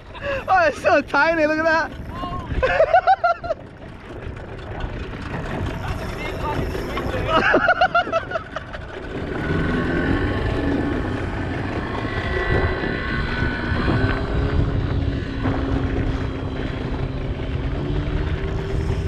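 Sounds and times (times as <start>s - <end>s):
outboard motor running: 0.0s - 19.0s
wind and water rushing: 0.0s - 19.0s.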